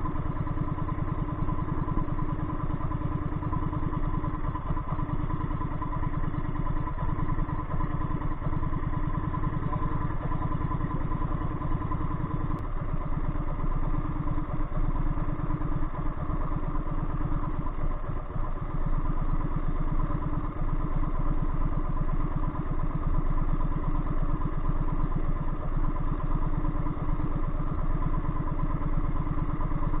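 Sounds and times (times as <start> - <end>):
boat engine chugging: 0.0 - 30.0.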